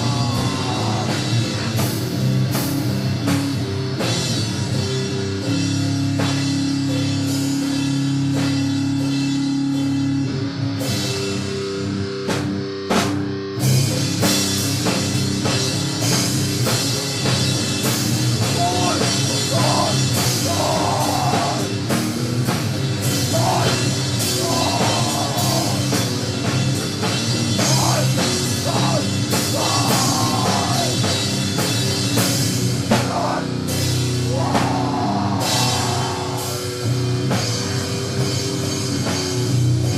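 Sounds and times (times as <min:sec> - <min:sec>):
distorted guitar and bass droning: 0:00.0 - 0:39.9
drum kit beats and cymbals: 0:00.0 - 0:39.9.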